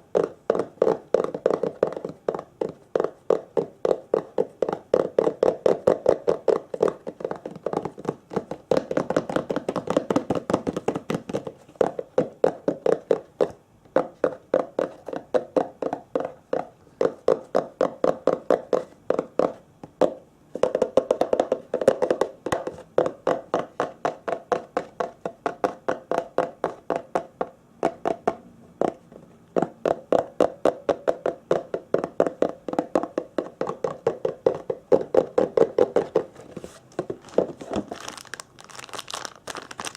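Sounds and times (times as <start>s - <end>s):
rapid tapping: 0.0s - 37.6s.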